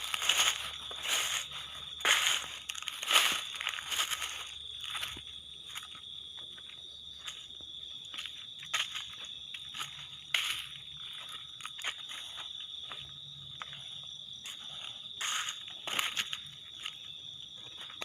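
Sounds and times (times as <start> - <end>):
crickets trilling: 0.0 - 18.0
footsteps crunching dry leaves: 0.0 - 18.0.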